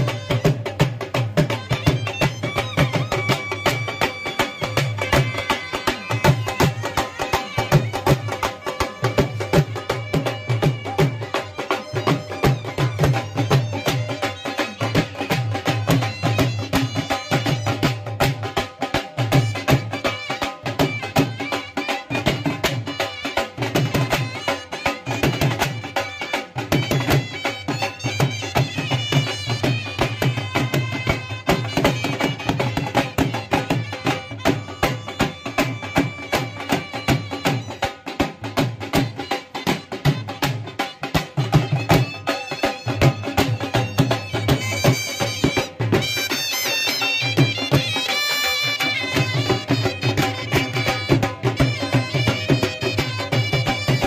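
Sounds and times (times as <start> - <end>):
fast steady drumbeat: 0.0 - 54.0
wind instrument melody: 0.0 - 54.0.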